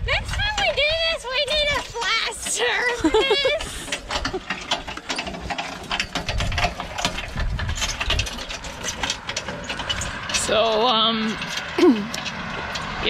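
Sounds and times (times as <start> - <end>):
cart rattling over bumpy ground: 0.0 - 13.0.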